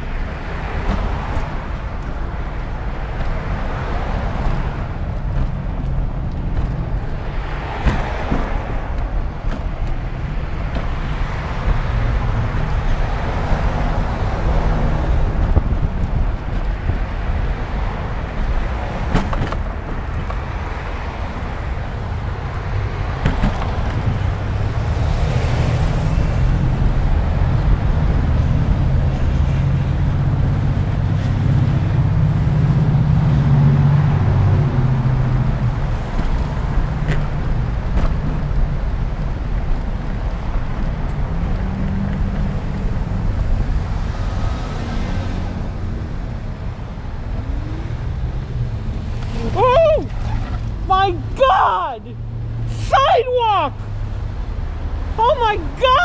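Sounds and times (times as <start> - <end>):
wind noise on microphone: 0.0 - 51.0
cars driving past: 0.0 - 56.0
low traffic rumble: 0.0 - 56.0.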